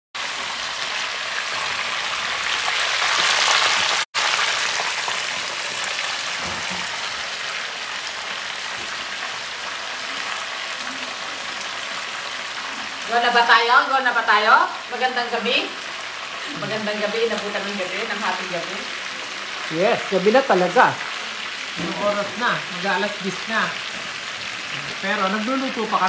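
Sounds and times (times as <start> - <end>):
chicken frying in hot oil: 0.2 - 26.0.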